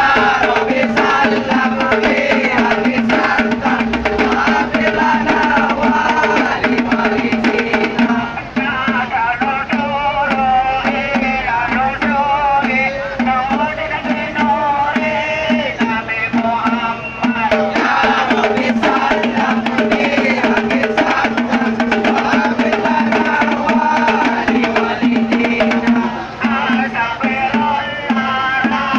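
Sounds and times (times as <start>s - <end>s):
lively music: 0.0s - 28.9s
steady drum strokes: 0.0s - 28.9s.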